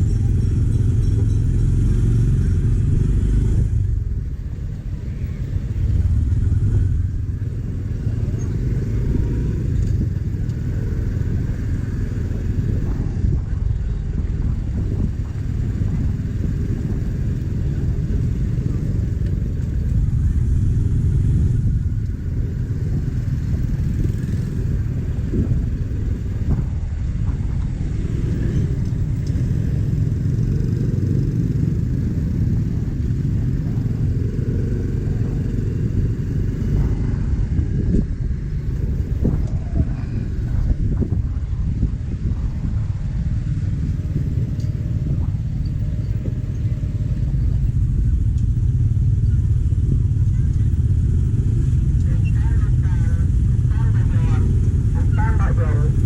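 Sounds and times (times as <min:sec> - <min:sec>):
motorcycle engine rumble: 0:00.0 - 0:56.0
road noise: 0:00.0 - 0:56.0.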